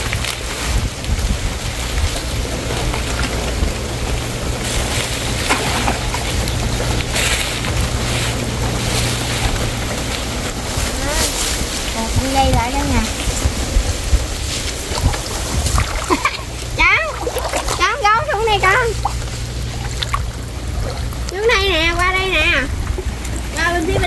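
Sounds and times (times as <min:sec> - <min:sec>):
water sloshing and splashing: 0:00.0 - 0:24.0
wind buffeting the microphone: 0:00.0 - 0:24.0.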